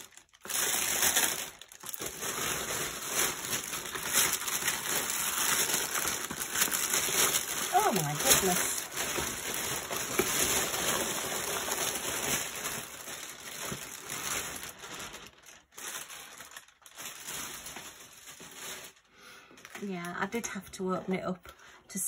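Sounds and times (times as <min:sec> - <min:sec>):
plastic bag rustling: 0:00.0 - 0:19.9.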